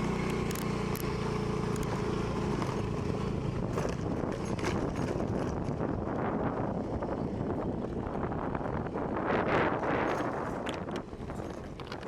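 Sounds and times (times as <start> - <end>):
motor scooter engine running: 0.0 - 12.0
wind noise on microphone: 1.7 - 12.0.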